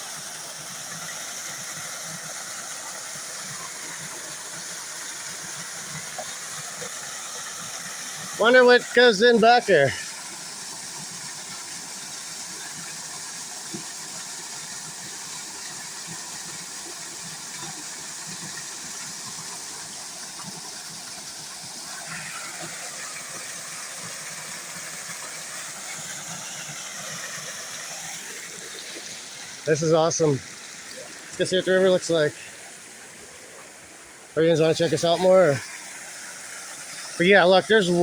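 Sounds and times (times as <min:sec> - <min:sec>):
water pouring over a dam: 0:00.0 - 0:38.0.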